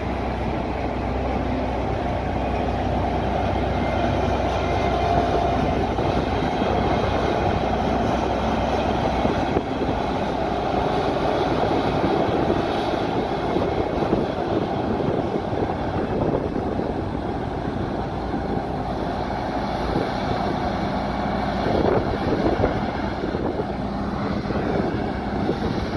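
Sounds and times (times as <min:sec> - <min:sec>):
tractor engine: 0:00.0 - 0:25.9.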